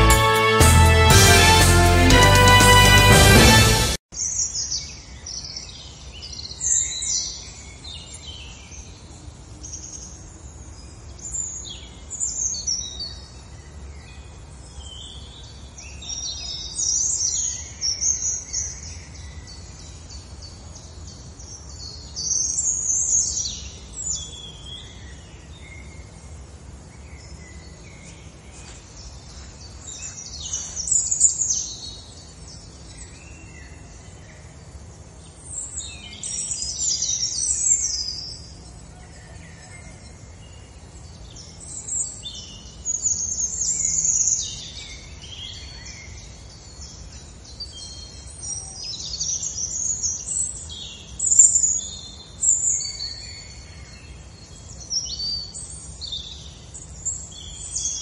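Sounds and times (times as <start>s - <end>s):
songbirds chirping: 4.2s - 58.0s.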